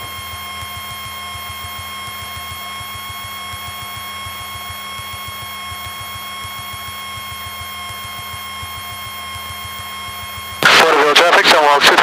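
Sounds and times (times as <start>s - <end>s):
aircraft engine drone: 0.0s - 12.0s
electrical whine: 0.0s - 12.0s.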